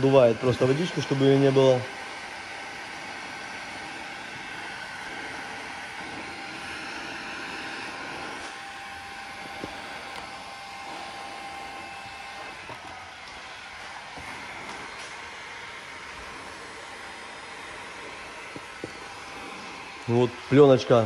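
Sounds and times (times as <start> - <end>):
hot-air gun blowing: 0.0 - 21.0.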